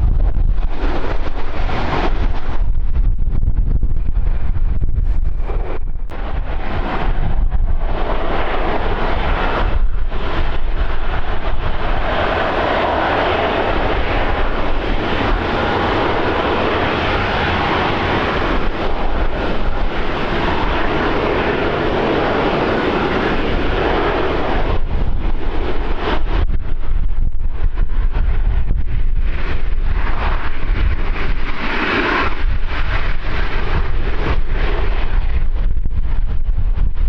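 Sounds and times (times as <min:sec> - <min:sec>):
aircraft engine passing by: 0:00.0 - 0:37.0
wind buffeting microphone: 0:00.0 - 0:37.0.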